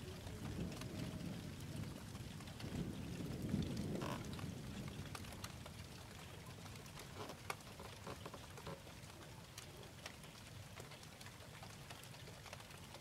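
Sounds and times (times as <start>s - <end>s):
faint steady rain: 0.0s - 13.0s.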